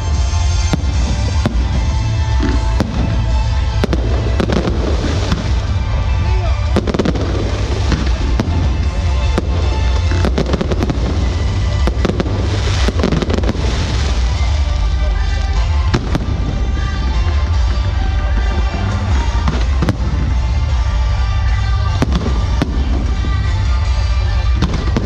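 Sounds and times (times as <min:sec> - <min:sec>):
fireworks bangs and crackles: 0:00.0 - 0:25.0
low rumble: 0:00.0 - 0:25.0.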